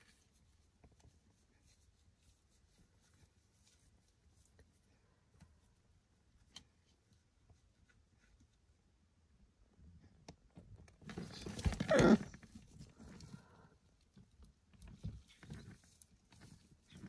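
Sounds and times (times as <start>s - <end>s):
faint clicks and rustles: 0.0s - 17.0s.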